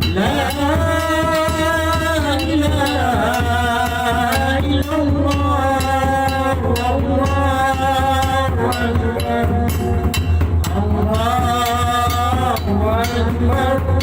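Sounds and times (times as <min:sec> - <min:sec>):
light percussion: 0:00.0 - 0:14.0.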